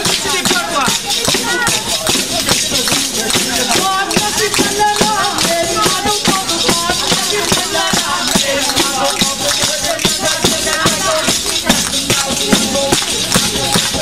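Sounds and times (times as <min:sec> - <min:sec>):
frame drum with jingles beating: 0:00.0 - 0:14.0
person singing: 0:01.4 - 0:14.0.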